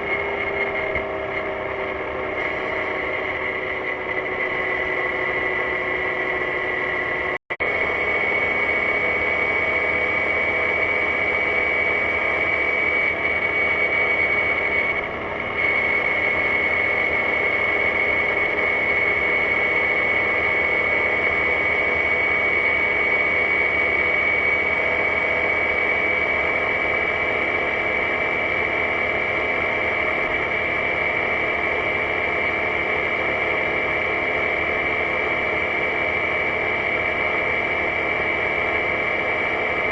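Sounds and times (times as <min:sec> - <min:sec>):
scooter engine running: 0:00.0 - 0:39.9
steady high whine: 0:00.0 - 0:39.9.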